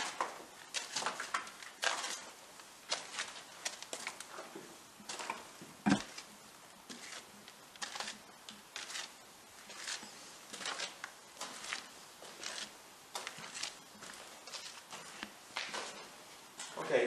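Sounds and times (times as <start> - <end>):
slow scuffing footsteps: 0.0 - 16.9.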